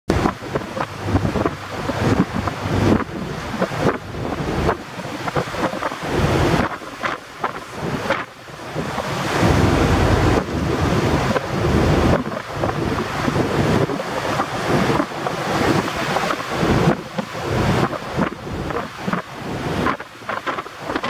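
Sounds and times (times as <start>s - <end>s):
rough choppy sea: 0.1s - 21.0s
wind buffeting microphone: 0.1s - 21.0s.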